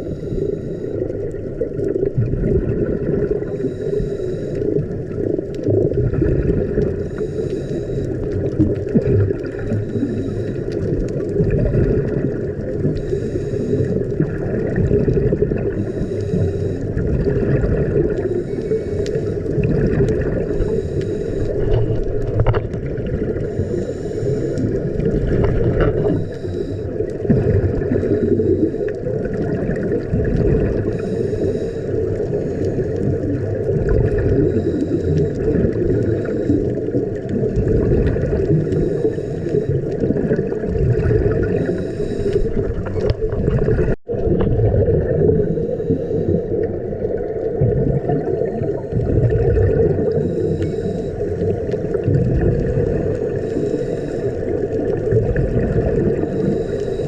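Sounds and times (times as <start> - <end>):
exhaled bubbles hissing underwater: 0.0 - 57.0.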